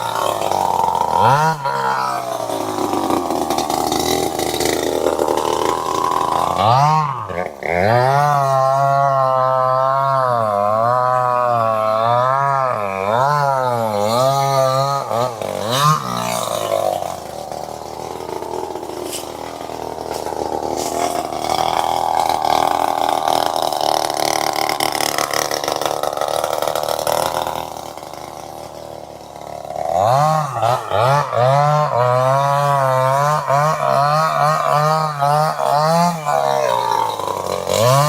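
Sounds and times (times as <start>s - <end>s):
chainsaw engine buzzing: 0.0s - 38.0s.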